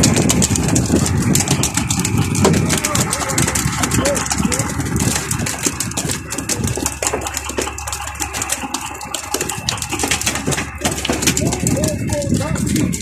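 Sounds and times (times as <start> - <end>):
fish flapping against wooden boxes: 0.0 - 13.0.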